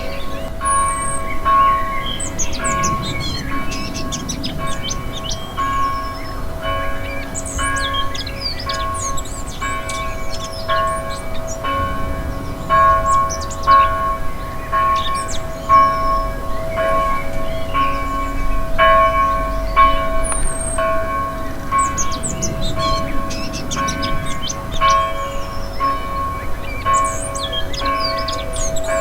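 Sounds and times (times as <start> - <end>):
church bell tolling: 0.0 - 29.0
songbirds chirping: 0.0 - 29.0.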